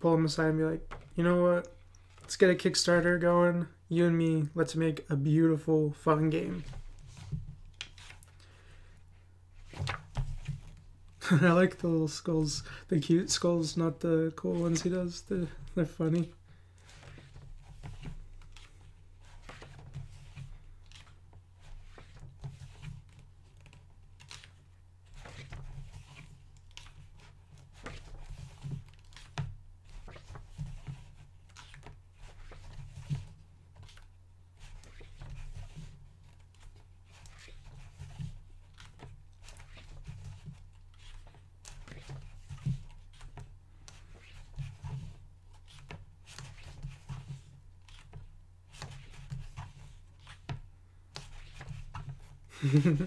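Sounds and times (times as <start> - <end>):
book pages turning: 6.4 - 9.0, 9.6 - 11.8, 14.4 - 53.0.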